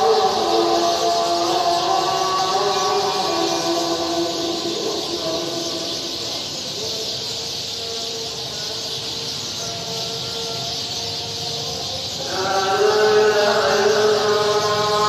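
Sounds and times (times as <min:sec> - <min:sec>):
distant voice chanting: 0:00.0 - 0:15.0.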